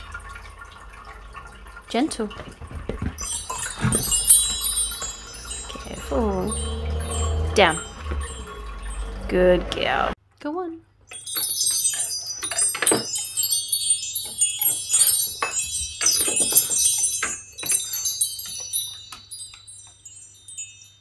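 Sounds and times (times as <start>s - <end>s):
metal chimes ringing: 3.2s - 10.2s, 11.1s - 21.0s.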